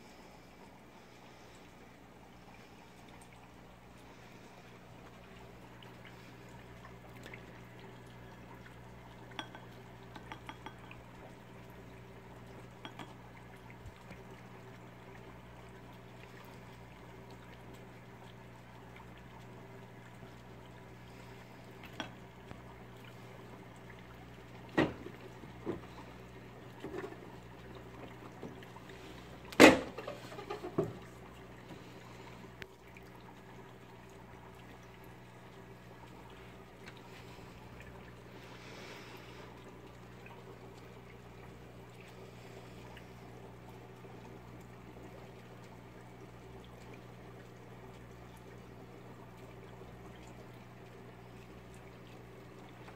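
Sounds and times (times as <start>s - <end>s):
aquarium hum: 0.0s - 52.9s
water trickling: 0.0s - 52.9s.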